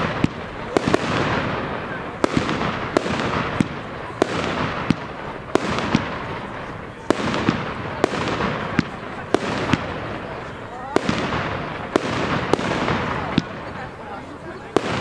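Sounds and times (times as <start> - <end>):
firework shells bursting: 0.0 - 13.8.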